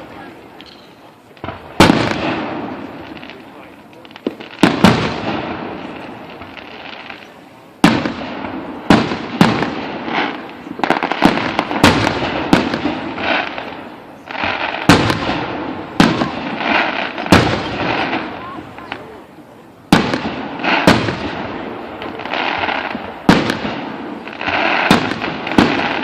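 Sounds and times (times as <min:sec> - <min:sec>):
fireworks bursting with sharp bangs: 0:00.0 - 0:26.0
fireworks crackling: 0:00.0 - 0:26.0.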